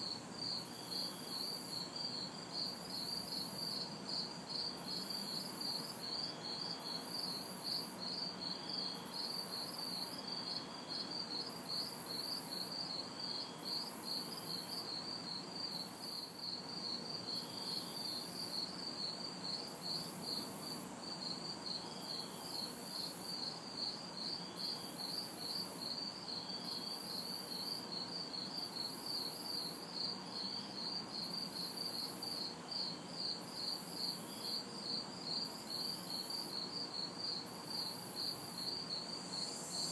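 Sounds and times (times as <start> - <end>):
crickets pulsing trill: 0.0 - 39.9
high insect buzz: 0.0 - 39.9.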